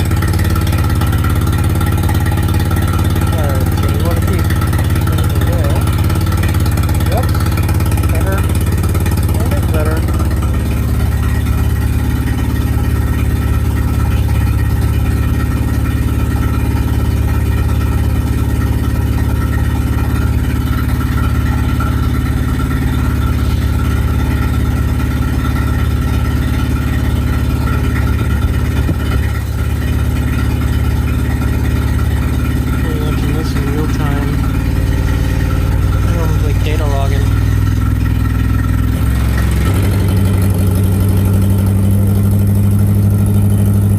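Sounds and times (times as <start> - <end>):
car engine running steadily: 0.0 - 43.9.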